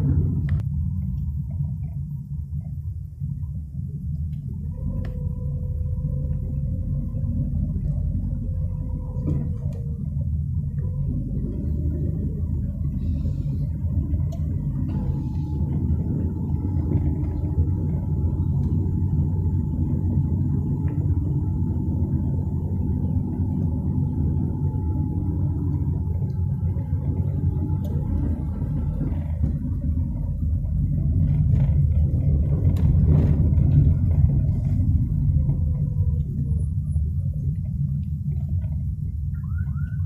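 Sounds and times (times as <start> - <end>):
car cabin road and engine rumble: 0.0 - 40.0
faint steady whine: 0.0 - 40.0.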